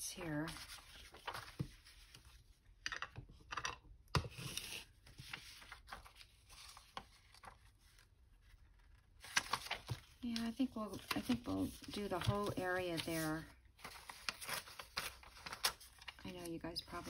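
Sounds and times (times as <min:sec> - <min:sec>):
paper rustling and crinkling: 0:00.0 - 0:02.6, 0:04.3 - 0:17.0.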